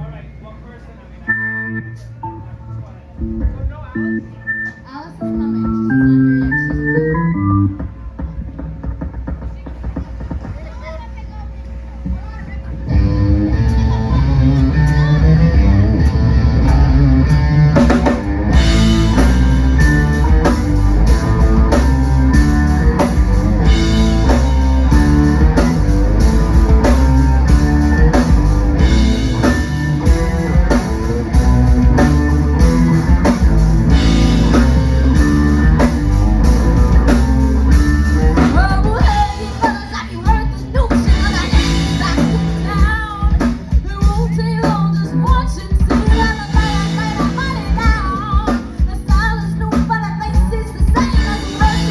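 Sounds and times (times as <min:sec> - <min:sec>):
live rock band playing: 0:03.2 - 0:10.4, 0:12.9 - 0:51.9
drum kit beating: 0:03.2 - 0:11.4, 0:12.0 - 0:51.9.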